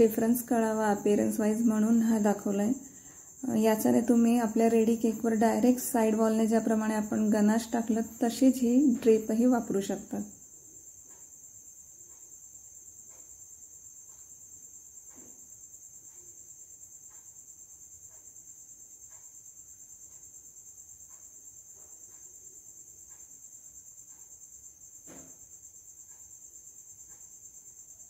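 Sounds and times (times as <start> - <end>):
high-pitched insect trill: 0.0 - 28.0.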